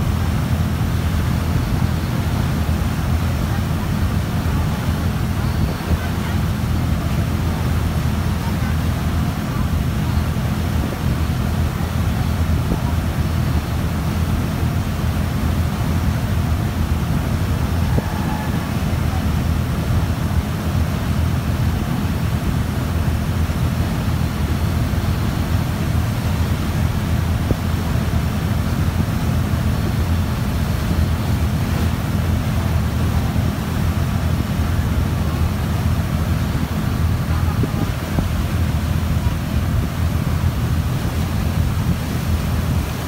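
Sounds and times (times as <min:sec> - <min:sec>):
boat engine droning: 0:00.0 - 0:43.0.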